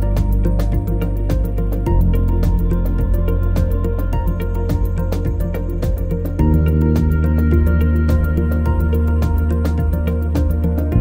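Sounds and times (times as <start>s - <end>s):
held chords music: 0.0s - 11.0s.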